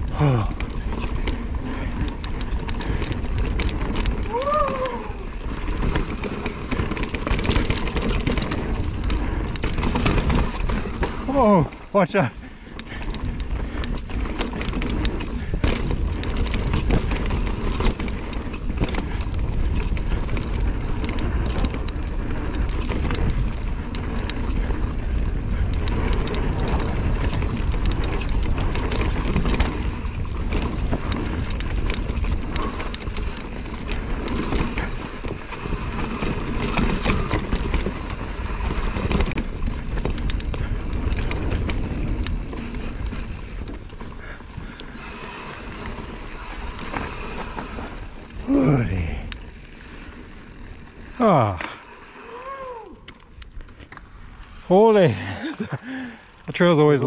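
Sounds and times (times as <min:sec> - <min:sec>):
bike knocking and rattling: 0:00.0 - 0:57.0
bike tyre noise: 0:00.0 - 0:57.0.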